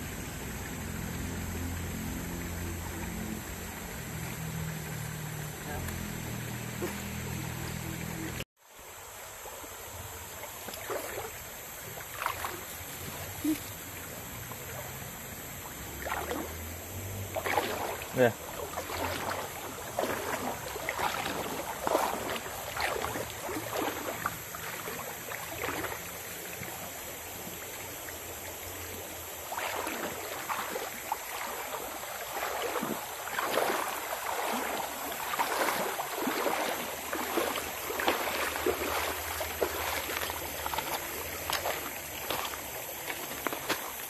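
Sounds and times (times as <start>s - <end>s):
footsteps splashing in a stream: 2.2s - 8.4s, 9.5s - 44.0s.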